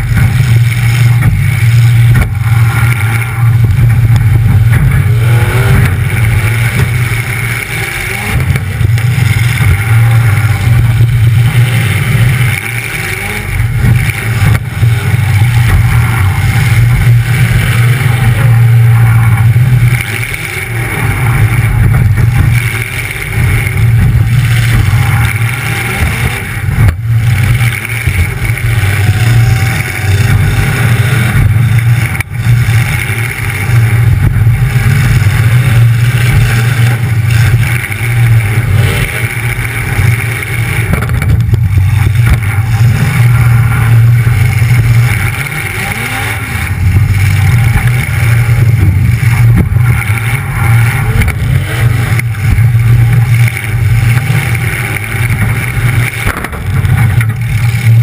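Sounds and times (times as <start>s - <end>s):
loud car engine revving: 0.0s - 58.0s.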